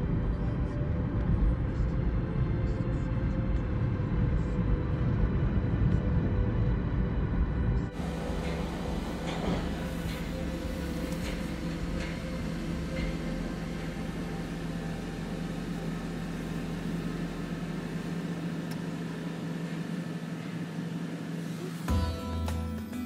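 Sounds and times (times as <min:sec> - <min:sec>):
low rumble: 0:00.0 - 0:21.1
car engine and cabin hum: 0:00.0 - 0:22.5.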